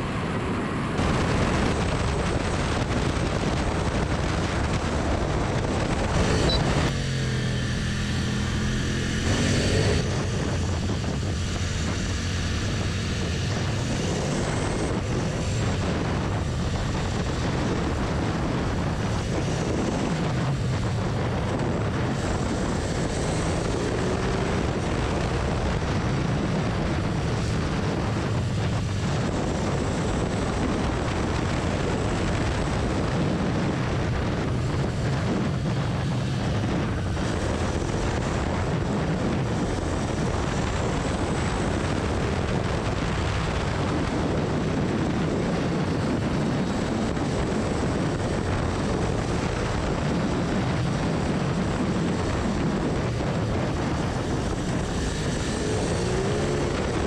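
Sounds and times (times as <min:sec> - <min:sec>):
motorcycle engine running: 0:00.0 - 0:57.0
wind rushing: 0:00.0 - 0:57.0.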